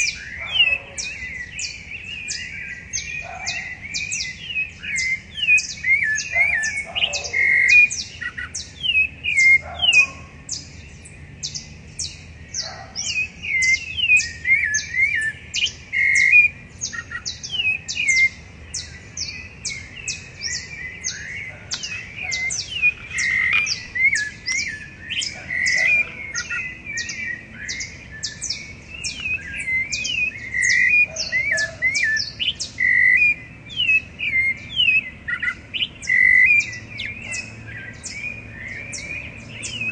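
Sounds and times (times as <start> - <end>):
thrushes singing: 0.0 - 39.9.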